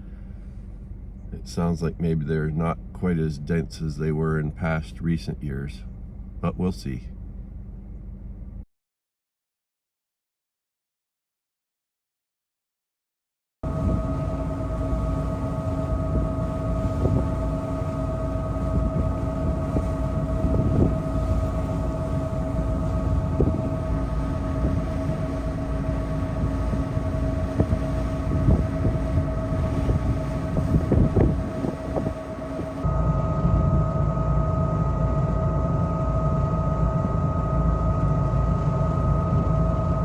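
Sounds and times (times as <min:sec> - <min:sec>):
moving vehicle rumble: 0:00.0 - 0:08.6, 0:13.7 - 0:40.0
mid-pitched hum: 0:00.0 - 0:08.7, 0:13.6 - 0:40.0.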